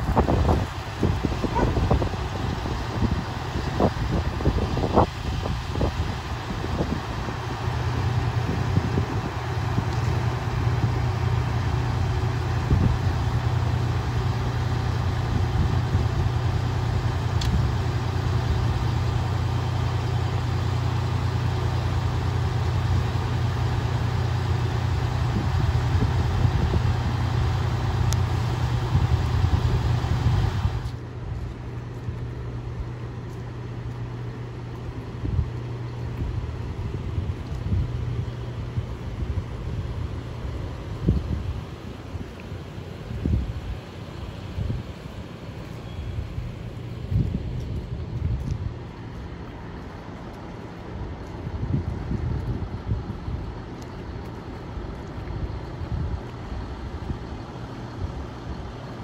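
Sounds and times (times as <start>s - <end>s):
diesel engines droning: 0.0s - 59.0s
steady mechanical hum: 0.0s - 59.0s.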